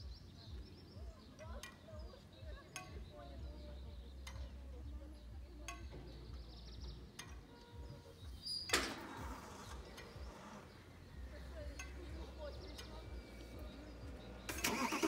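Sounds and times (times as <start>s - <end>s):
high bird chirps: 0.0s - 15.0s.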